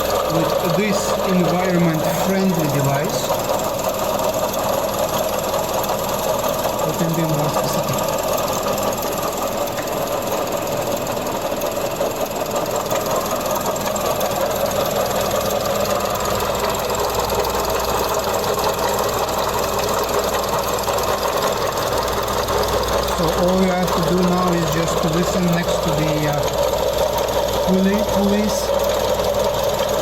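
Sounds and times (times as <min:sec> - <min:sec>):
car engine idling: 0:00.0 - 0:30.0
fast rattle of tensioner pulley: 0:00.0 - 0:30.0.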